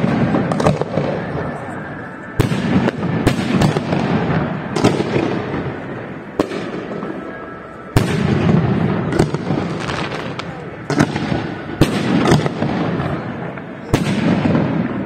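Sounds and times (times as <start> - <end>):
fireworks bangs: 0.0 - 15.0
fireworks crackle and rumble: 0.0 - 15.0.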